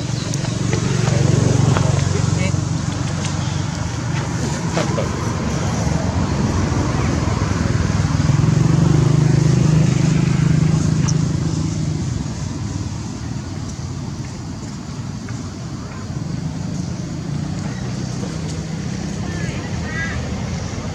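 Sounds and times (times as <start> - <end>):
vehicle engine humming: 0.0 - 20.9.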